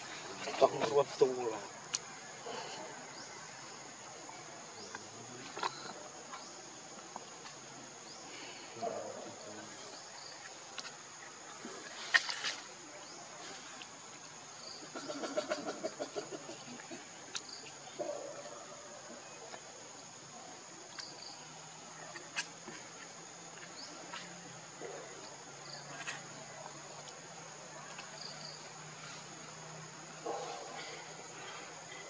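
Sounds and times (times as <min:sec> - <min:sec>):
insect chorus high drone: 0:00.0 - 0:32.0.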